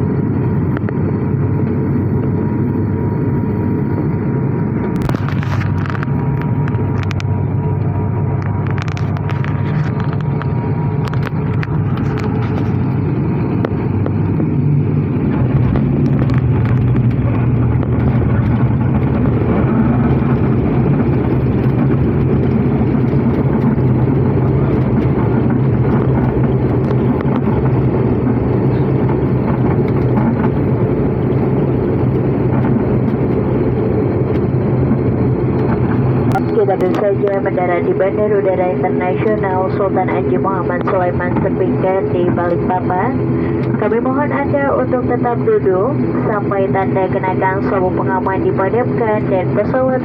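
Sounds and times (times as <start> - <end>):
engine and propeller drone: 0.0 - 50.0.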